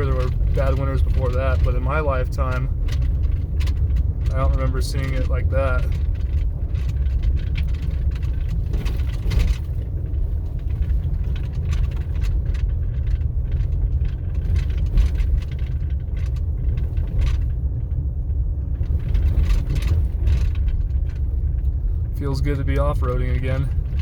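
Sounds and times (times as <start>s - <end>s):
vehicle engine and tyre rumble: 0.0s - 24.0s
vehicle knocks and rattles: 0.0s - 24.0s.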